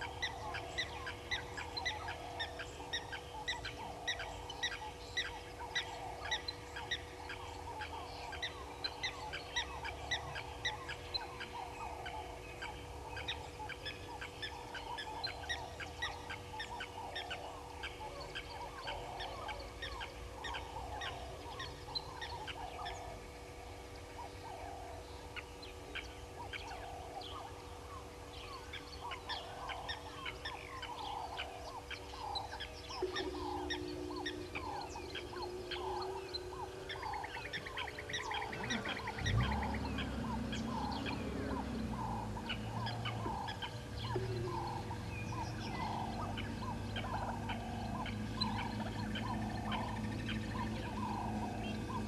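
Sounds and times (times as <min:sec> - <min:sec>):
birds chirping and calling: 0:00.0 - 0:52.0
steady low hum: 0:00.0 - 0:52.0.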